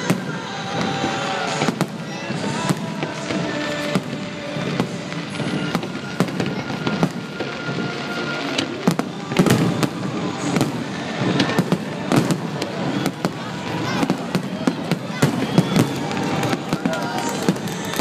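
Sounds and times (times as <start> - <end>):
fireworks bursting with bangs: 0.0 - 18.0
music playing: 0.0 - 18.0.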